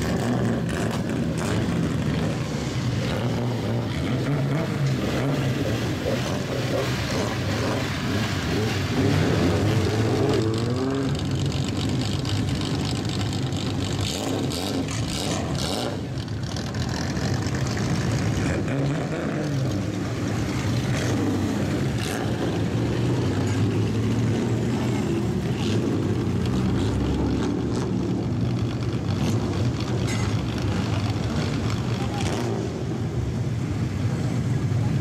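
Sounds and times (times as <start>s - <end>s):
car engines driving past: 0.0s - 35.0s.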